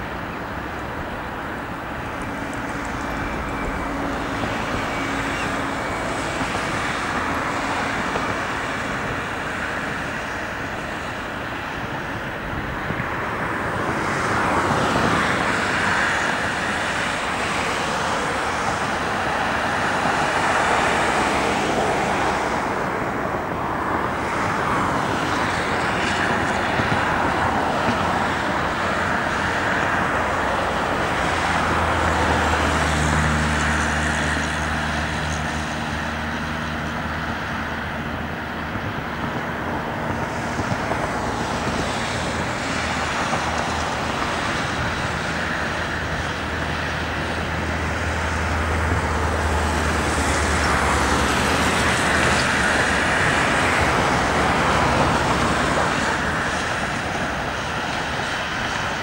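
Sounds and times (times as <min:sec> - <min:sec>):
road traffic rushing: 0:00.0 - 0:59.0.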